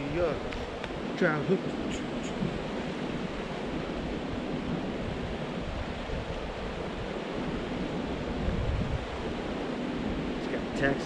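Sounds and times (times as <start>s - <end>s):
river water rushing: 0.0s - 11.0s
wind rumbling on microphone: 0.0s - 11.0s.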